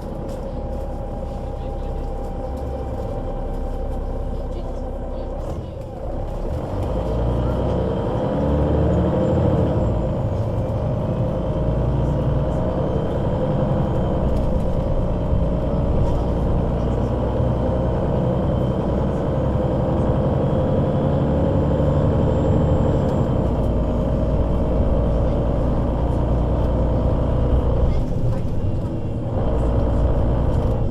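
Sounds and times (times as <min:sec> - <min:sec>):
bus engine rumbling: 0:00.0 - 0:30.9.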